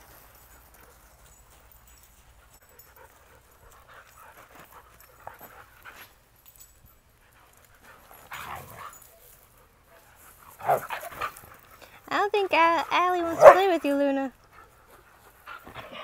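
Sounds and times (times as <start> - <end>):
dogs scuffling: 0.0 - 16.0.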